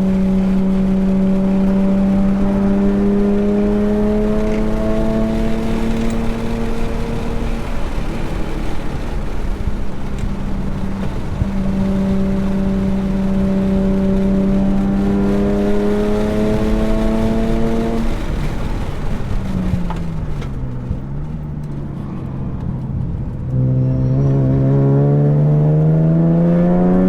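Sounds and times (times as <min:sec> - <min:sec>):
car engine revving: 0:00.0 - 0:27.0
road and wind noise: 0:00.0 - 0:27.0.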